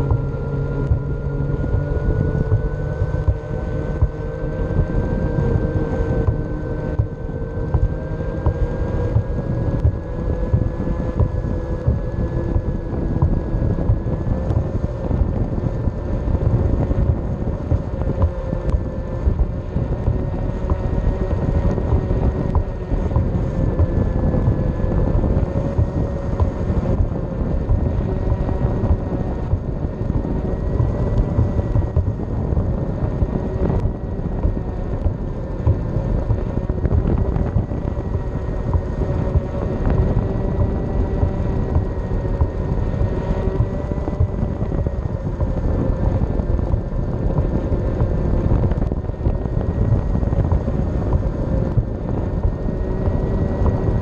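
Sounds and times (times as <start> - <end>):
hub motor whining: 0.0 - 54.0
wheel rumbling on concrete: 0.0 - 54.0
wind on microphone: 0.0 - 54.0.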